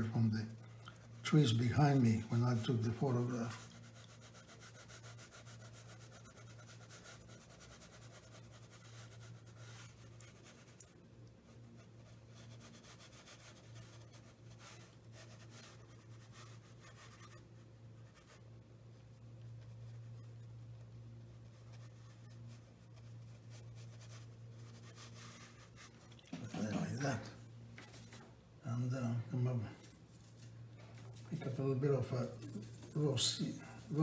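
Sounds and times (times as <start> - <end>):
brush scratching on paper: 0.0 - 28.2, 29.4 - 34.0
steady low hum: 0.0 - 34.0.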